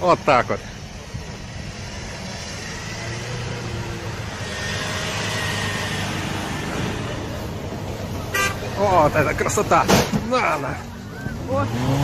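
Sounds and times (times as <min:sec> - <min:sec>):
tyres on snow: 0:00.0 - 0:12.0.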